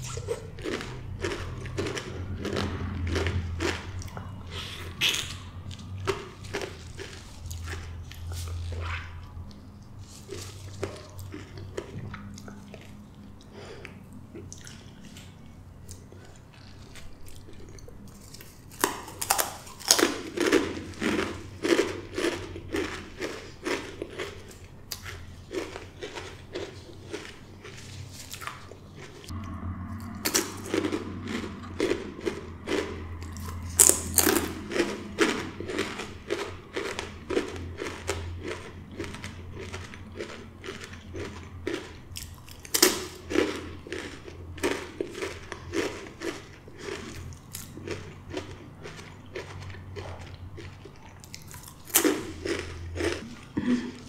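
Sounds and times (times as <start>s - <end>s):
crunching tortilla chips: 0.0s - 13.8s, 14.4s - 54.0s.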